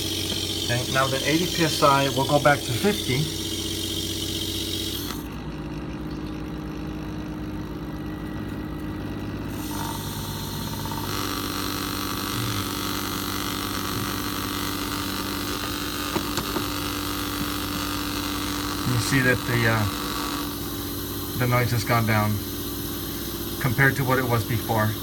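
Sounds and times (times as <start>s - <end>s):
pump motor hum: 0.0s - 25.0s.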